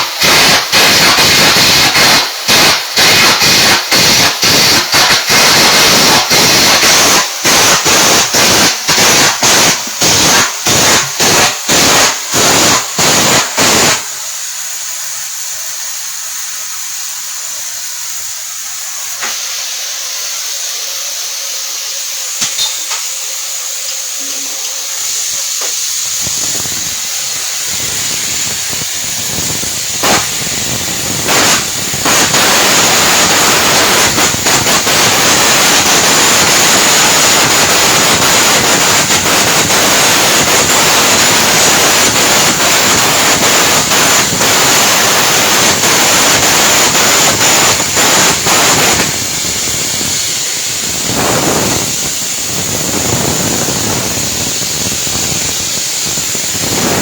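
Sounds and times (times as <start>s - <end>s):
steady hiss with clicks: 0.0s - 57.0s
welding arc crackling: 0.0s - 57.0s.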